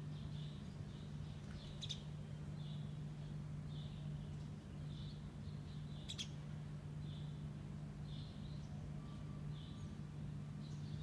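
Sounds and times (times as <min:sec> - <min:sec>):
small bird chirping: 0:00.0 - 0:11.0
steady low hum: 0:00.0 - 0:11.0.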